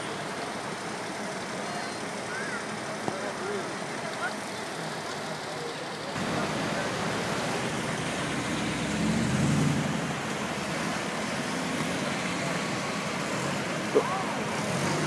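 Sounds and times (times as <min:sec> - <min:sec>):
cars driving past: 0:00.0 - 0:15.0
city traffic noise: 0:00.0 - 0:15.0.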